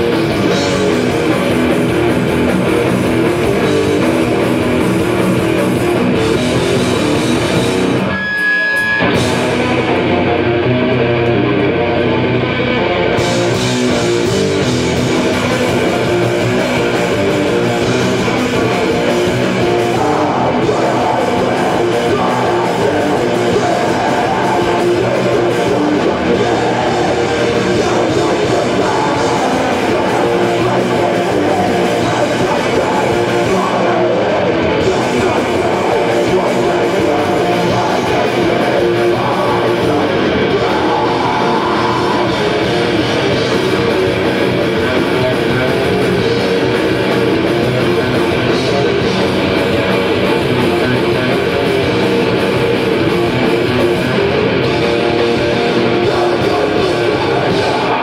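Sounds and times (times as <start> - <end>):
live heavy metal band: 0.0 - 58.0.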